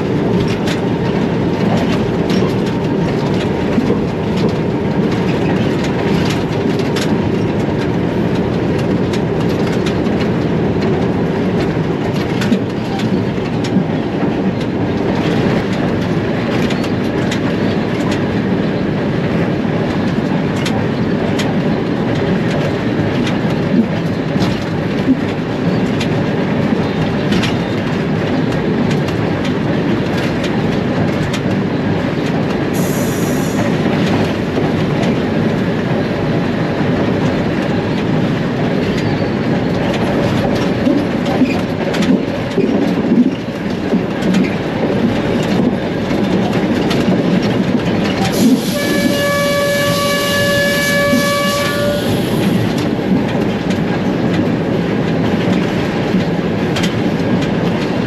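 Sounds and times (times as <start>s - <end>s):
diesel locomotive engine rumble: 0.0s - 58.0s
wheels clicking over rail joints: 0.0s - 58.0s.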